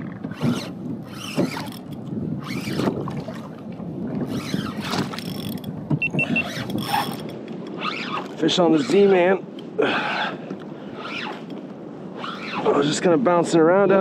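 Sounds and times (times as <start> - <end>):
water slapping kayak hull: 0.0 - 12.9.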